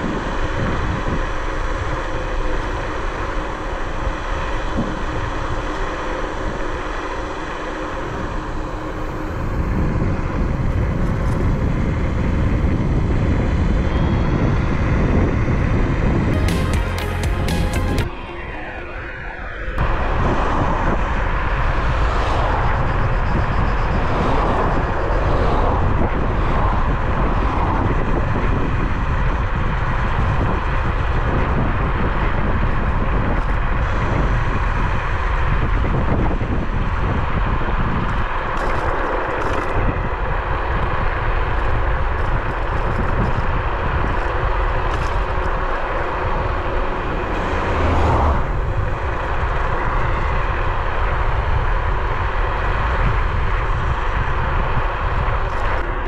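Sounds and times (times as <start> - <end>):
wind over microphone: 0.0 - 16.4, 18.0 - 56.0
tyres on road: 0.0 - 56.0.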